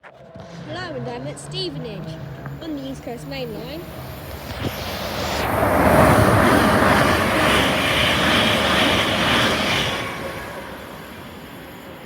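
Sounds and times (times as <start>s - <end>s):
train passing at speed: 0.4s - 12.0s.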